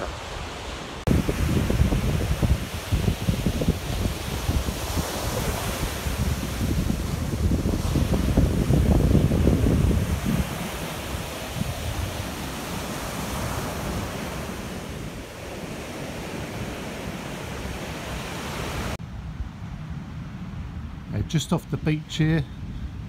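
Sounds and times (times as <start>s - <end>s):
sea surf washing onto beach: 0.0s - 19.0s
wind buffeting microphone: 0.0s - 21.4s.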